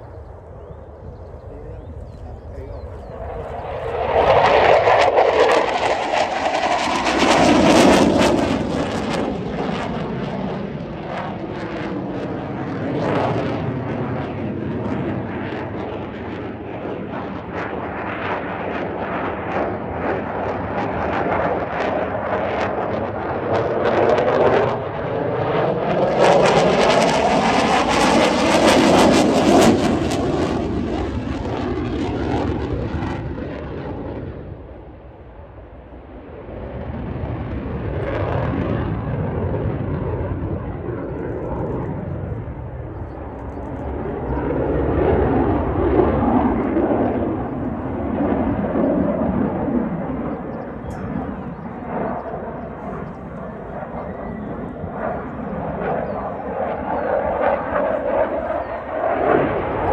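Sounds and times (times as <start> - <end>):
fighter jet engine noise: 0.0 - 59.9.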